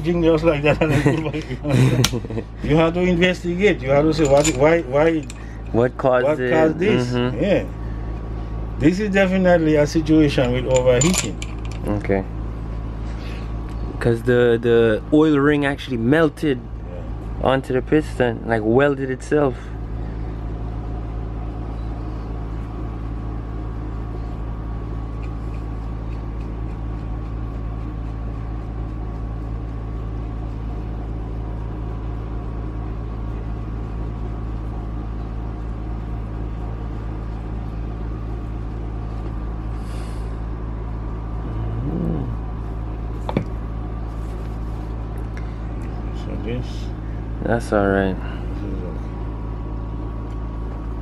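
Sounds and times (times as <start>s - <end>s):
machine humming: 0.0s - 51.0s.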